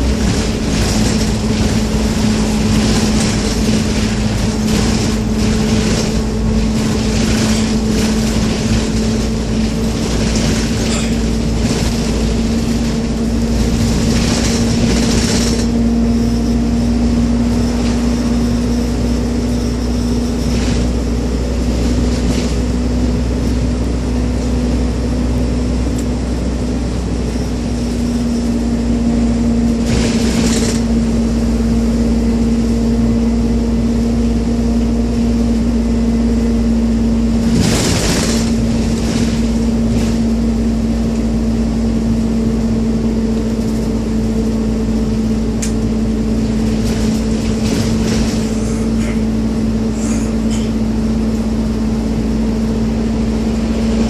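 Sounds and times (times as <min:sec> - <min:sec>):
engine droning: 0:00.0 - 0:54.0
low road rumble: 0:00.0 - 0:54.0.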